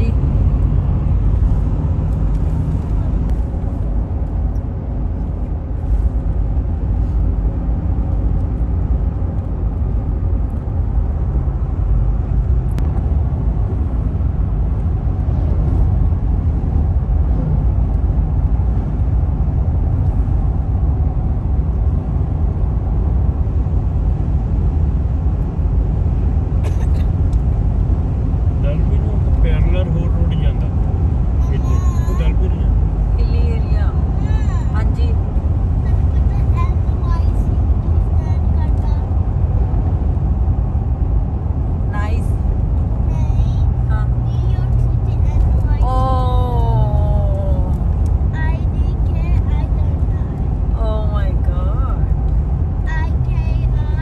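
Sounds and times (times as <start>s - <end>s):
car cabin road rumble: 0.0s - 54.0s.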